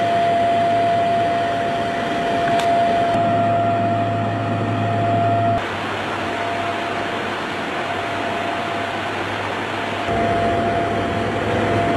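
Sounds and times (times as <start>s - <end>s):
aircraft cabin engine rush: 0.0s - 11.9s
low hum: 0.0s - 11.9s.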